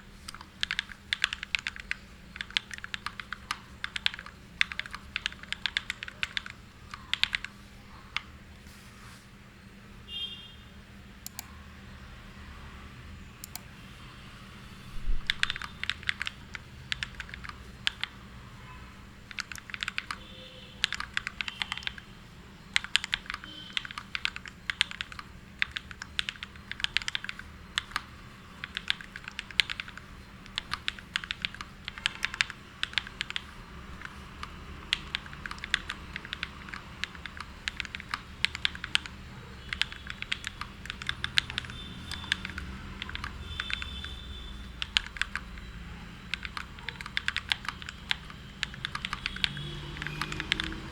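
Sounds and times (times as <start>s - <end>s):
typing on mechanical keyboard: 0.2s - 7.6s, 11.2s - 11.5s, 13.4s - 13.6s, 15.2s - 18.2s, 19.2s - 22.1s, 22.7s - 50.9s.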